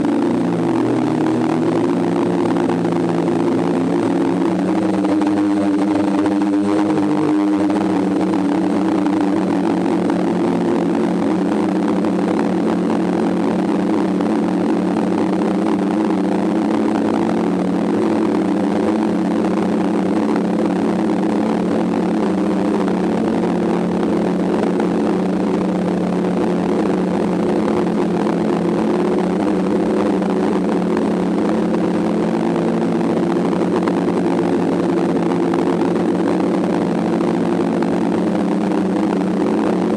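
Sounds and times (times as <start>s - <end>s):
drone propellers humming: 0.0s - 39.9s.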